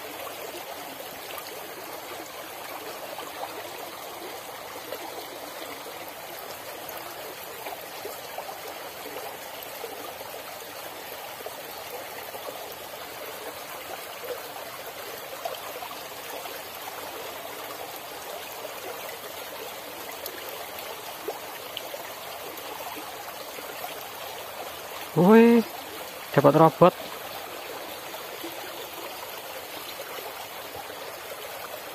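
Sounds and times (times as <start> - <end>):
stream flowing over stones: 0.0 - 31.9.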